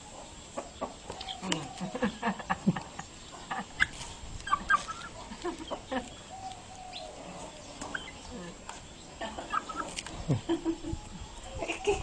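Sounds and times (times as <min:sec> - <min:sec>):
hen clucking: 0:00.1 - 0:12.0.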